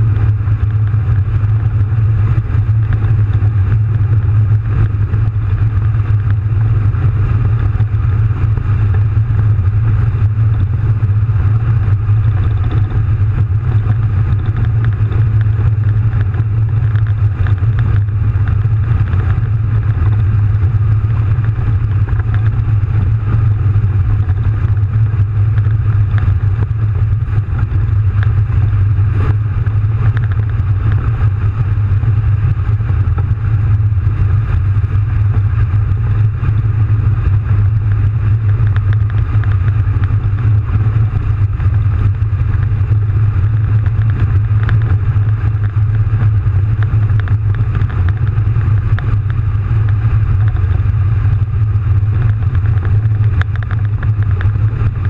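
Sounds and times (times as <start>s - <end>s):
diesel engine drone inside cab: 0.0s - 55.0s.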